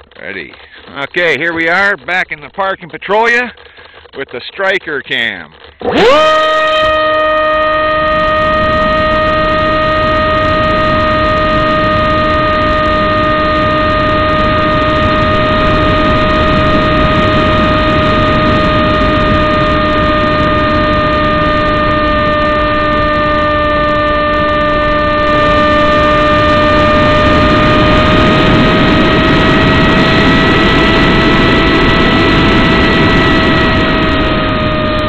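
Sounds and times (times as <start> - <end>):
model plane motor whine: 0.0 - 35.0.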